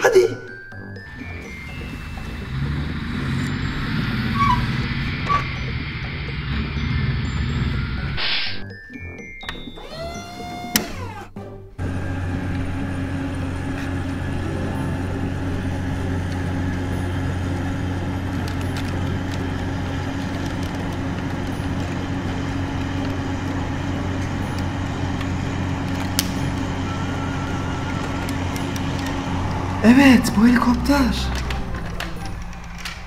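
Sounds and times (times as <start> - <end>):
low engine hum: 0.6 - 33.0.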